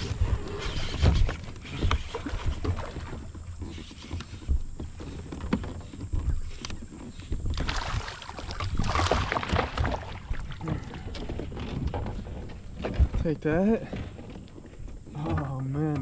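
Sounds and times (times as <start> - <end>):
fish thrashing and splashing: 0.0 - 13.2.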